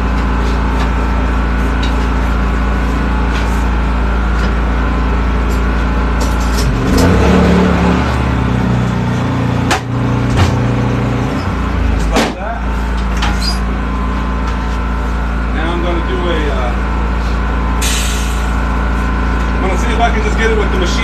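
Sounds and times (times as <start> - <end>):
air compressor engine drone: 0.0 - 21.0.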